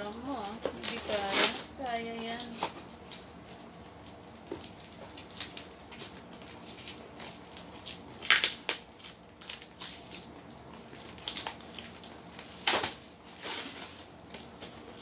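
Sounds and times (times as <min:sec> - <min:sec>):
packing tape ripping: 0:00.1 - 0:03.4, 0:04.5 - 0:14.7.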